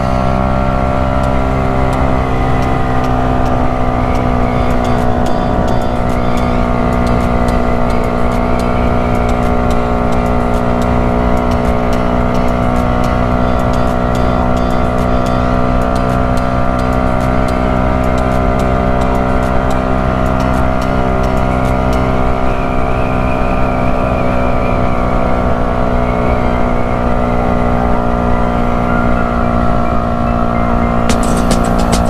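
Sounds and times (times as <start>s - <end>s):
motorcycle engine cruising: 0.0s - 32.0s.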